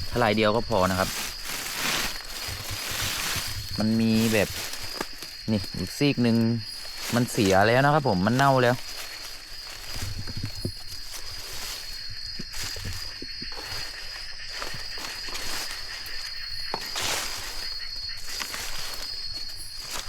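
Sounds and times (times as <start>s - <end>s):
footsteps in undergrowth: 0.0s - 20.0s
high-pitched insect drone: 0.0s - 20.0s.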